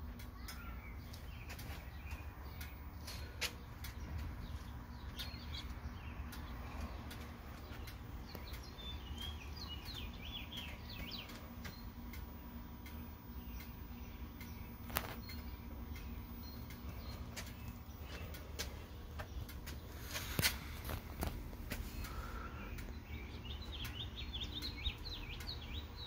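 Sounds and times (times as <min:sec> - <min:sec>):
low steady rumble: 0:00.0 - 0:26.0
small birds chirping: 0:00.0 - 0:26.0
light ticks: 0:00.1 - 0:26.0.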